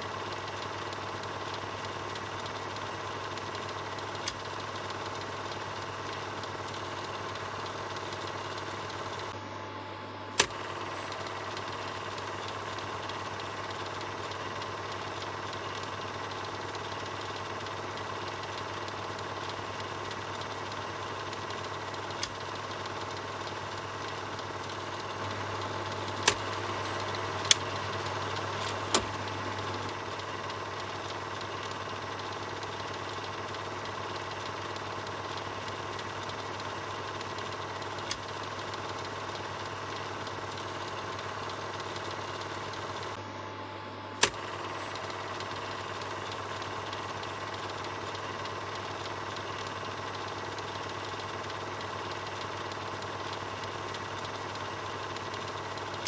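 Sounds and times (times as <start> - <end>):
sharp clicks: 0.0 - 9.4, 10.4 - 43.2, 44.2 - 56.0
film projector whirring: 0.0 - 56.0.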